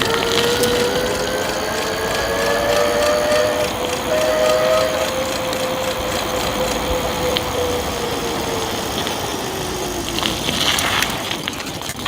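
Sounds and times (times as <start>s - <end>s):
electric bike motor whining: 0.0s - 12.0s
wind: 0.0s - 12.0s.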